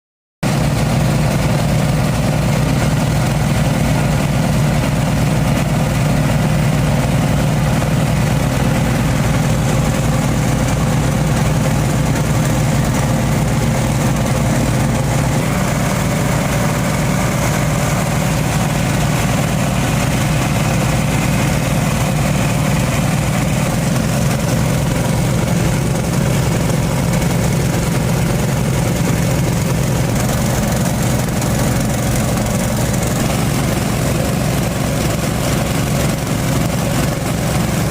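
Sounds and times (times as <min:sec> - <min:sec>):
boat engine running: 0:00.4 - 0:37.9.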